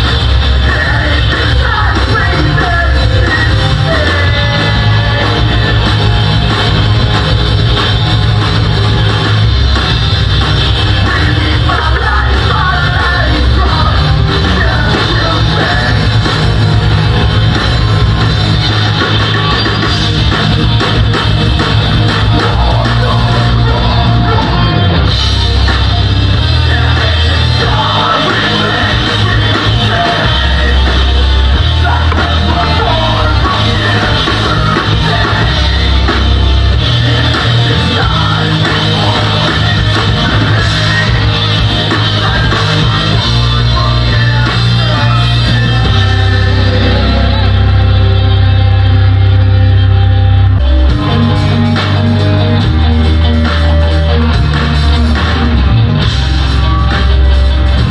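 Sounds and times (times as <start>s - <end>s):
sung and yelled vocals: 0.0s - 8.3s, 10.6s - 49.6s
metalcore band playing live: 0.0s - 57.9s.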